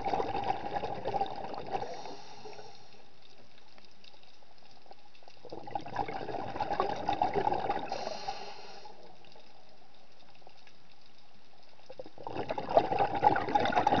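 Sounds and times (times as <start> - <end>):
low steady hiss: 0.0 - 14.0
underwater bubbling and crackling: 0.0 - 14.0.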